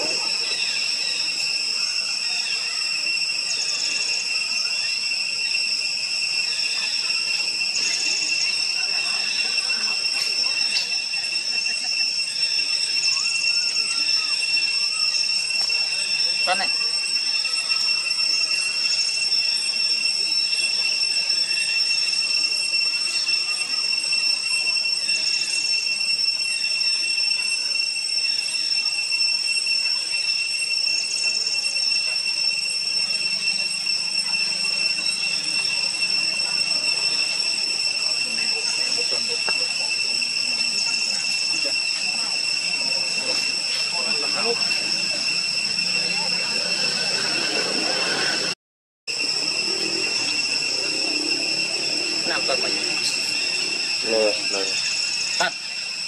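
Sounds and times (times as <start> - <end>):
faint rapid chirping: 0.0 - 56.0
high-pitched insect drone: 0.0 - 56.0
rapid insect trill: 0.0 - 56.0.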